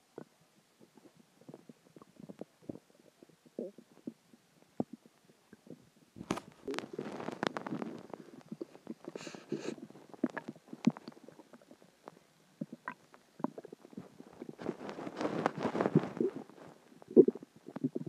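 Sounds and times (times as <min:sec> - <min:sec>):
stomach growling and gurgling: 0:00.0 - 0:18.0.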